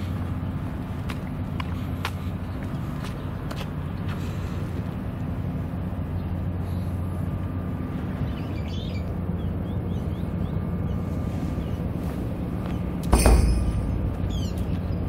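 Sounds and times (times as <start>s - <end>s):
distant machinery hum: 0.0s - 15.0s.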